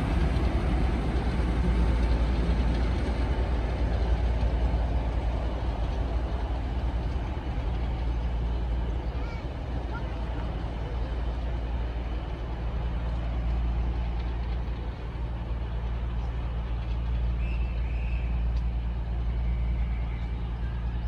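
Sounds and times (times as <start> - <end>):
diesel locomotive engine humming: 0.0 - 21.0.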